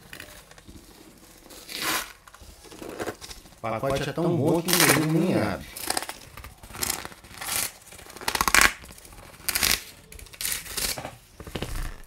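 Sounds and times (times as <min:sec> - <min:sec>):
package crinkling and rustling: 0:00.0 - 0:12.0.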